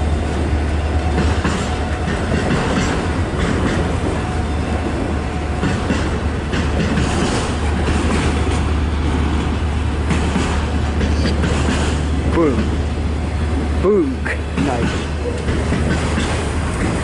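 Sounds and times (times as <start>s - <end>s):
train wheels rumbling on rails: 0.0s - 17.0s
wheels clacking over rail joints: 0.0s - 17.0s.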